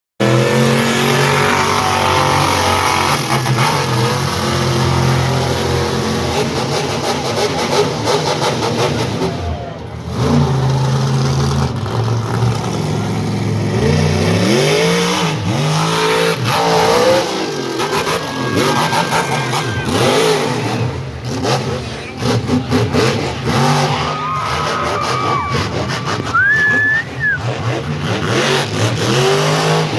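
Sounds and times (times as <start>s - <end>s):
monster truck engine revving: 0.2s - 29.9s.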